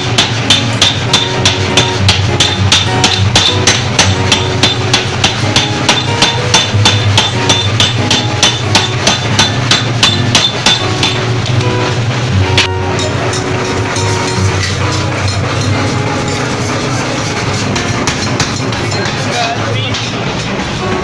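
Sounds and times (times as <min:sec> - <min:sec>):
low machine hum: 0:00.0 - 0:21.0
power hammer striking hot metal: 0:00.0 - 0:21.0.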